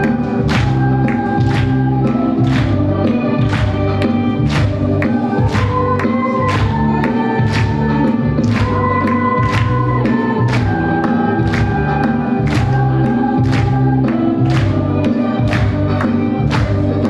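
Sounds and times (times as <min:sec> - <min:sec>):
church ensemble singing a hymn: 0:00.0 - 0:17.0
instrumental accompaniment: 0:00.0 - 0:17.0.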